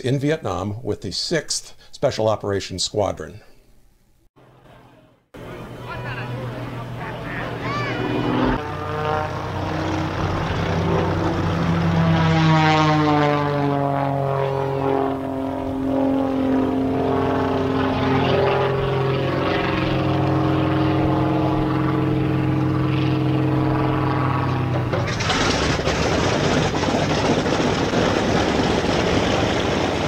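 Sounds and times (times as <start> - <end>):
radial aircraft engine and propeller: 4.4 - 30.0.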